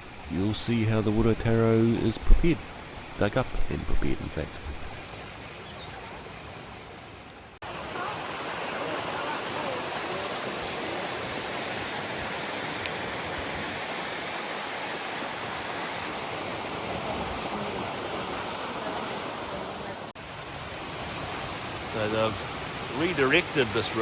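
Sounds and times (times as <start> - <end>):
river and waterfall rushing: 0.0 - 24.0.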